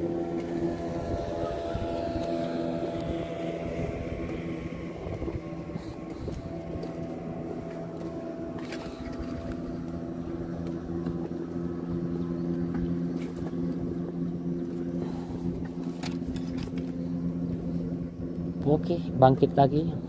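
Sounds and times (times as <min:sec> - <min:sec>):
engine humming steadily: 0:00.0 - 0:20.0.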